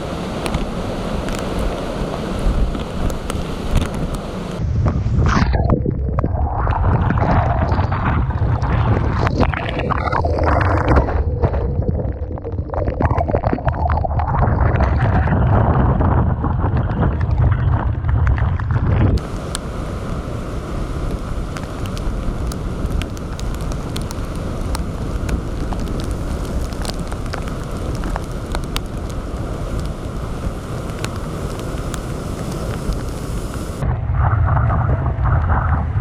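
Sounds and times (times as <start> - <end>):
wind-driven rain ticks: 0.0 - 33.9
storm surf rumble: 0.0 - 36.0
wind buffeting microphone: 0.0 - 36.0.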